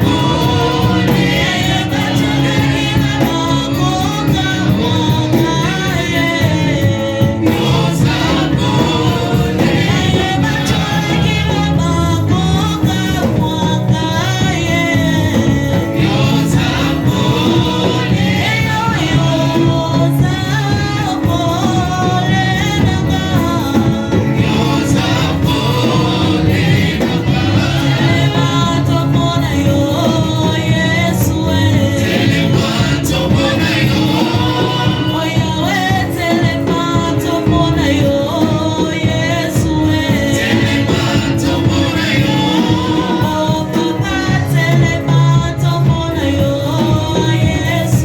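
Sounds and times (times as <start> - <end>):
gospel choir singing with backing: 0.0 - 48.0.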